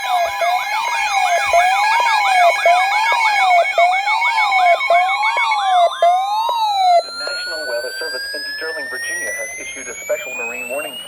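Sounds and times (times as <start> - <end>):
siren fast yelp: 0.0 - 11.0
siren slow wail: 0.0 - 11.0
steady high tones: 0.0 - 11.0.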